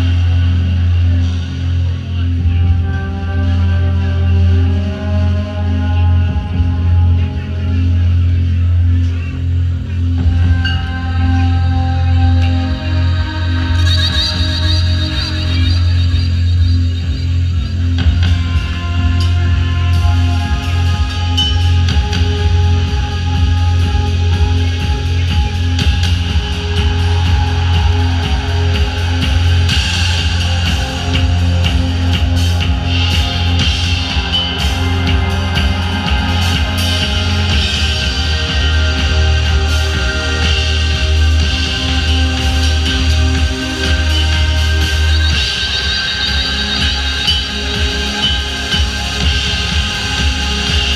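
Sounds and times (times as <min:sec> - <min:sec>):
loud music with heavy bass: 0:00.0 - 0:50.9.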